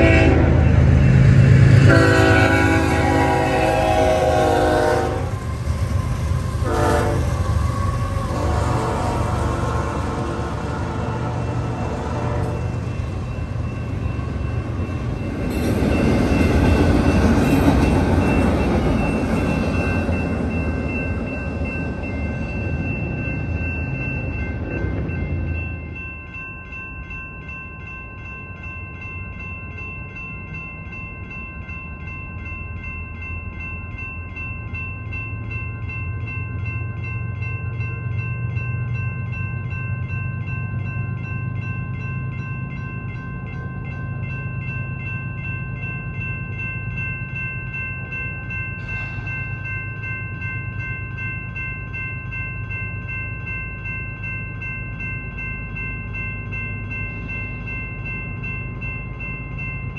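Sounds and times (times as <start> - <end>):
crossing bell ringing: 0.0 - 59.9
train rumble: 0.0 - 59.9.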